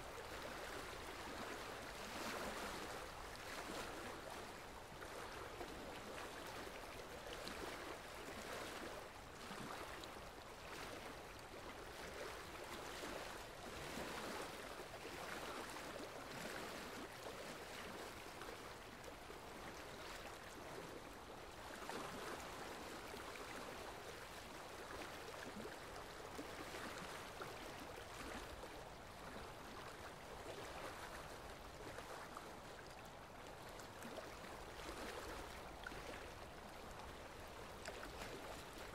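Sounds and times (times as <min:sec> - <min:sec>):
water gently lapping: 0:00.0 - 0:38.9.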